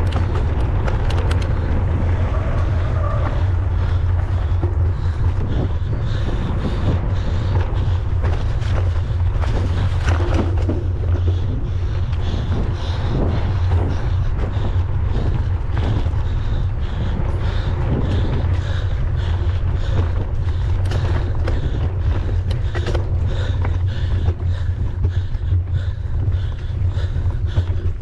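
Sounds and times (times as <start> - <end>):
bike rattles and knocks: 0.0 - 28.0
wind buffeting microphone: 0.0 - 28.0.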